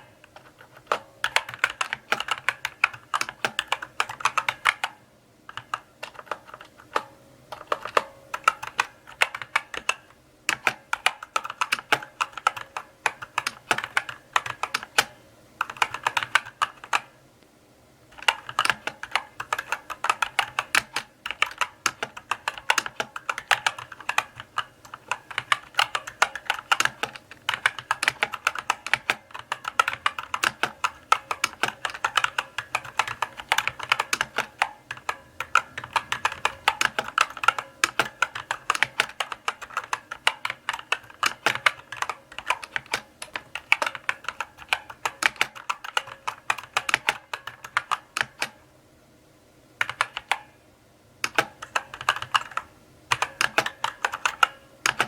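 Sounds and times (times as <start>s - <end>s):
mechanical keyboard typing: 0.0s - 17.2s, 18.1s - 48.6s, 49.8s - 50.5s, 51.2s - 55.0s.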